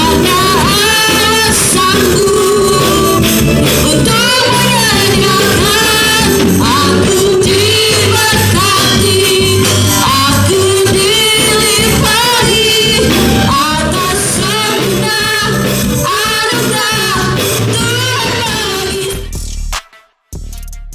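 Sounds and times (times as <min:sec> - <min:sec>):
woman singing: 0:00.0 - 0:19.3
band accompaniment: 0:00.0 - 0:20.9.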